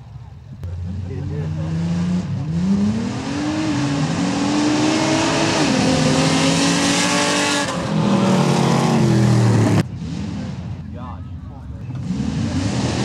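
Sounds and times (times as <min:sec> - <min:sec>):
engine at full throttle: 0:00.6 - 0:13.0.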